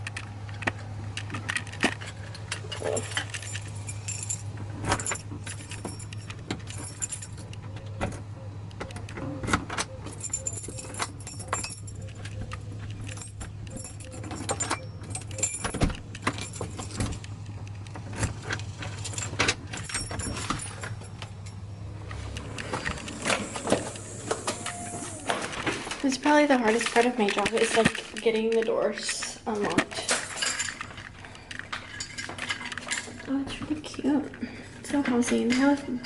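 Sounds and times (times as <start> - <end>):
door lock clicking and rattling: 0.0 - 33.3
keys jangling: 0.0 - 33.4.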